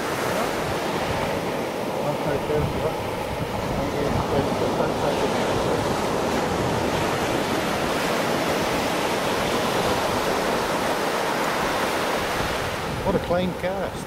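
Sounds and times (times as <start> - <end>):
surf on sandy beach: 0.0 - 14.0.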